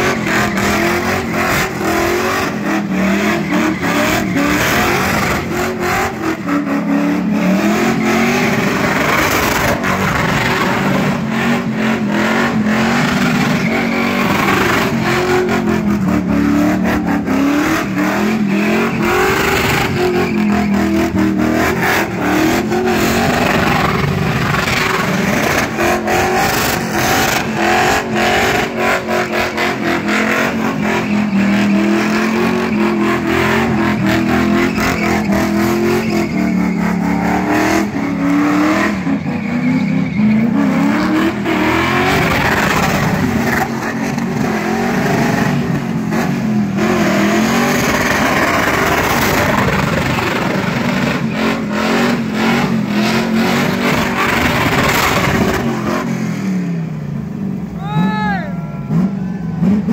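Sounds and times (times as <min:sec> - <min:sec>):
car engine revving hard: 0:00.0 - 0:57.7, 0:58.9 - 0:59.9.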